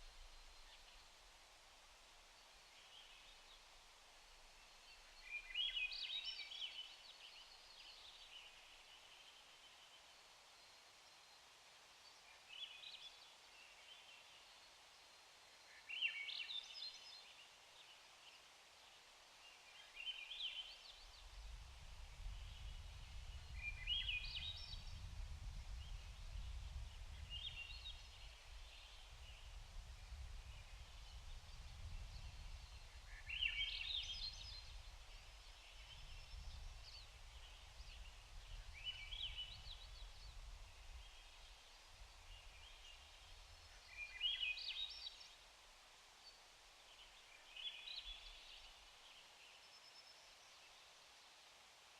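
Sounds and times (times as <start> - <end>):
faint background hiss: 0.0 - 51.9.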